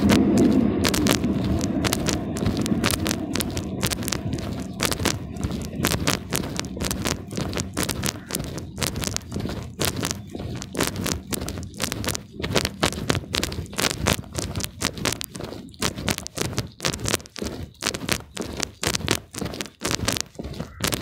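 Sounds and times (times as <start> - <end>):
footsteps on paved path: 0.0 - 21.0.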